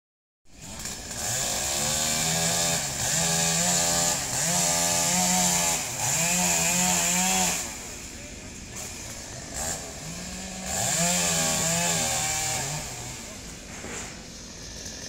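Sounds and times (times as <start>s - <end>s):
chainsaw cutting wood: 0.5s - 8.0s, 8.6s - 15.0s.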